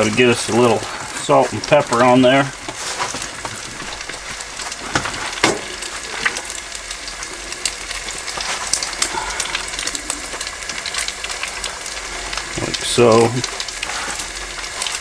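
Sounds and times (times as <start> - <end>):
egg sizzling in a skillet: 0.0 - 15.0.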